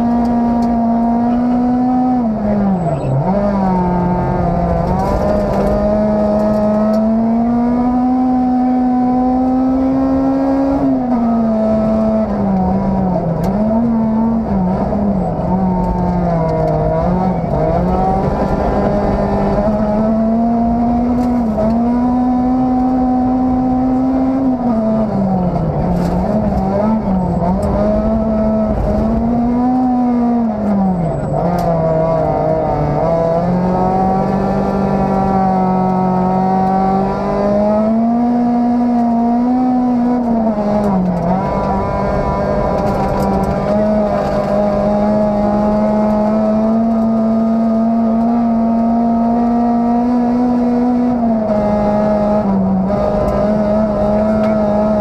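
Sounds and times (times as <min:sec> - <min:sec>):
rally car engine at speed: 0:00.0 - 0:55.0
tyres rumbling on snowy road: 0:00.0 - 0:55.0.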